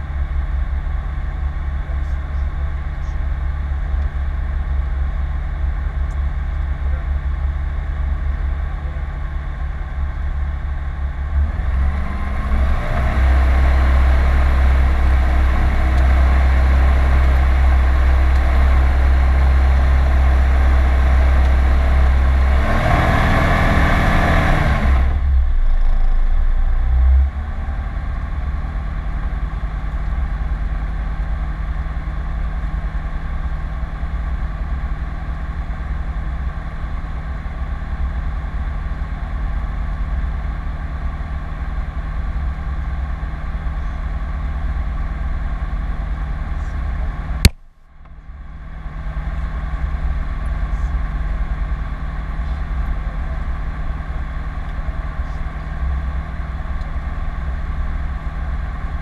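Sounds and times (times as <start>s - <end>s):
light aircraft engine running: 0.0s - 59.0s.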